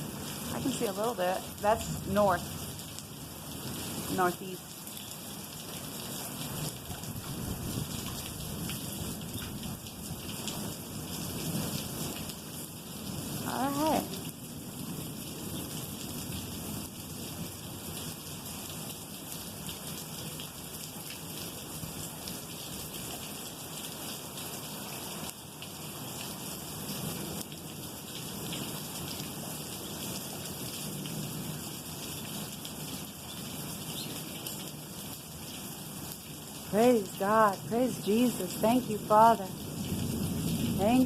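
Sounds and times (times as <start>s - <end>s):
heavy rain pattering: 0.0s - 41.0s.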